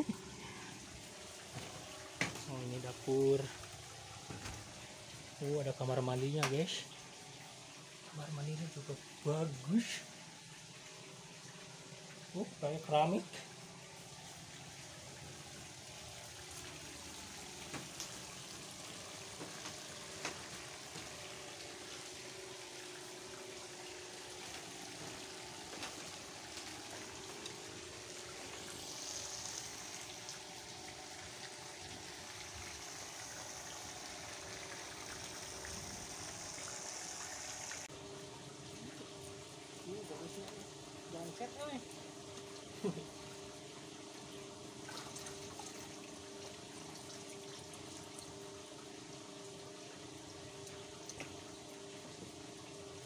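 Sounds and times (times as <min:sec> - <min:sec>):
trickling water: 0:00.0 - 0:53.0.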